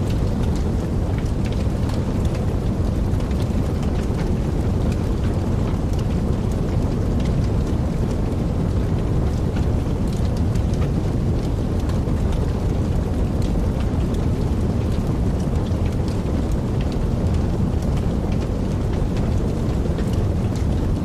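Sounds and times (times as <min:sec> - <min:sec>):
fire crackling and popping: 0:00.0 - 0:21.0
wood fire burning: 0:00.0 - 0:21.0.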